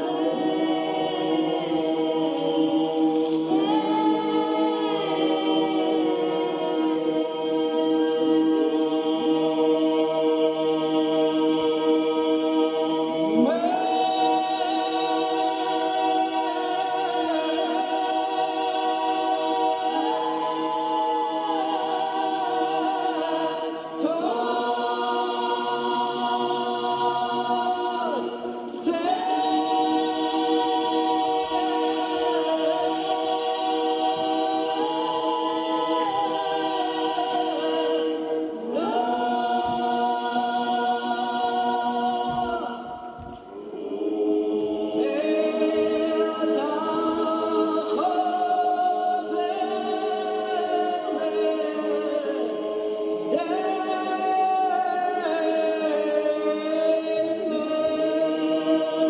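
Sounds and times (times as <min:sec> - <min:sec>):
unaccompanied choir singing chords: 0:00.0 - 0:59.0.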